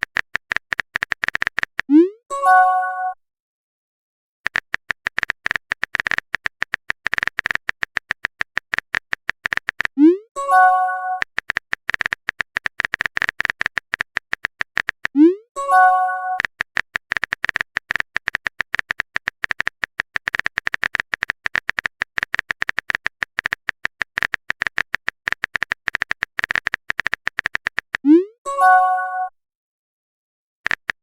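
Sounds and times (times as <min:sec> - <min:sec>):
keyboard typing clicks: 0:00.0 - 0:02.1, 0:04.4 - 0:29.3, 0:30.6 - 0:31.0.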